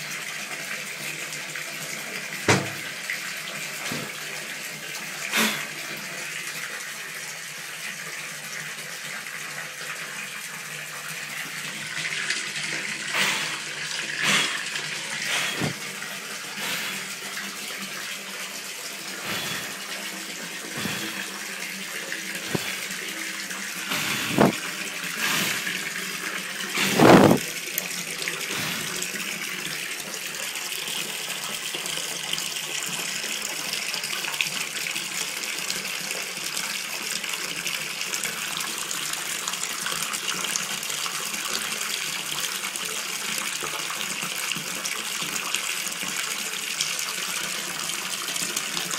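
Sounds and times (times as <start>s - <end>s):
water pouring into bathtub: 0.0s - 48.9s.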